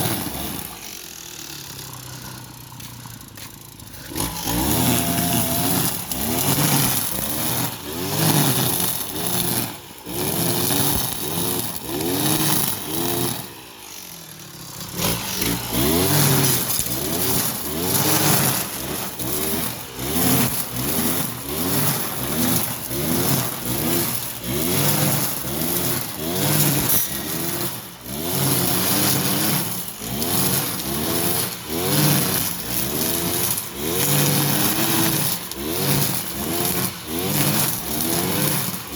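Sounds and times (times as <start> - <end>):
brush cutter engine cutting grass: 0.0 - 38.9.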